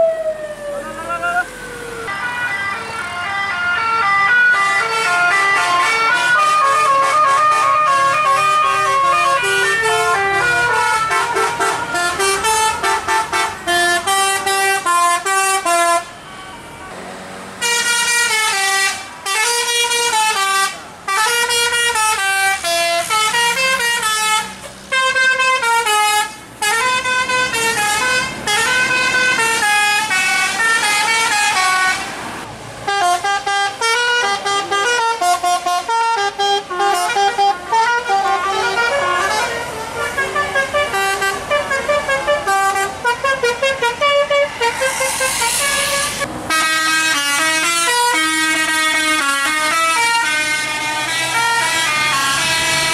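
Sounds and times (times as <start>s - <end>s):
bus multi-tone horn melodies: 2.1s - 52.9s.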